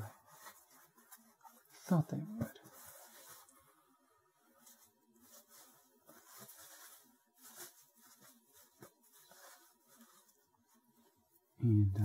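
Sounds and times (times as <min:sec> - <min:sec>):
paper towel rustling and patting: 0:00.0 - 0:11.6.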